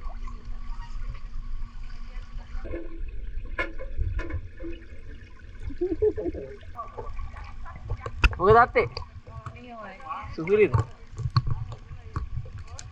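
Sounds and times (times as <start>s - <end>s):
pool water sloshing and splashing: 0.0s - 12.9s.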